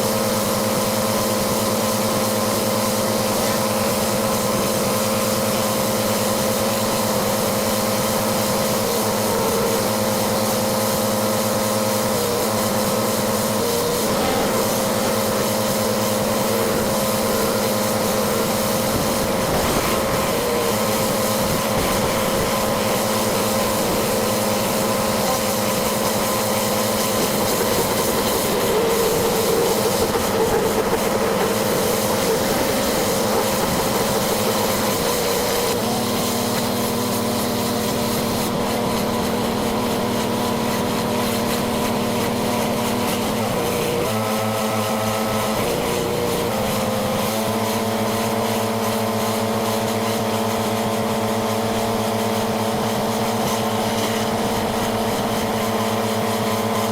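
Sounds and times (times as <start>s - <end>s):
high-pressure water spray hissing: 0.0s - 56.9s
pressure washer engine running: 0.0s - 56.9s.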